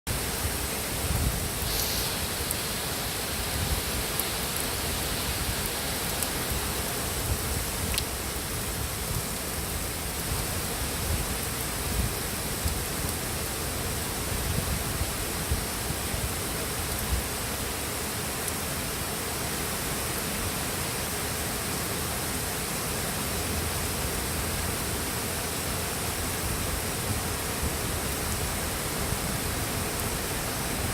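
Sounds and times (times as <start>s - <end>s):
heavy rain pouring: 0.1s - 30.9s
water drips and splashes: 0.1s - 30.9s.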